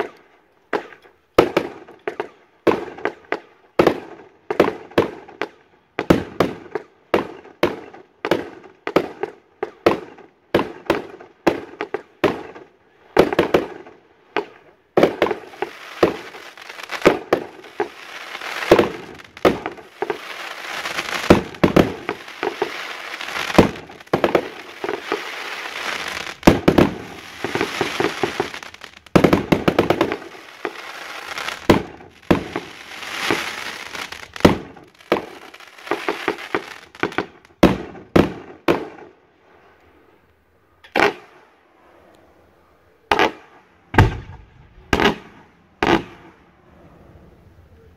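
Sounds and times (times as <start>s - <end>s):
fireworks bangs and crackling: 0.0s - 39.2s, 40.9s - 41.5s, 43.1s - 46.5s.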